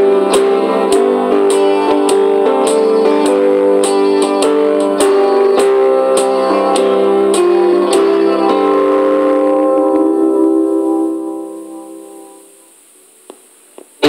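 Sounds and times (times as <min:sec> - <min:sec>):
instrumental music with light beat: 0:00.0 - 0:12.6.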